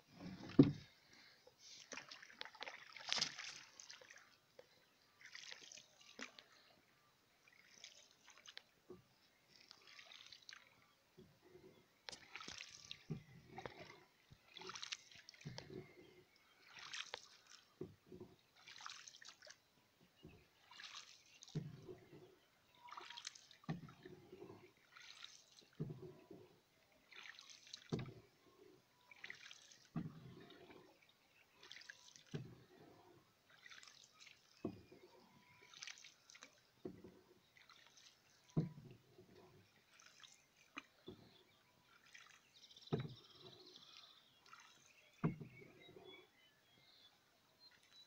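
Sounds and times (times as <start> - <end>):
paddle splashing water: 0.0 - 48.0.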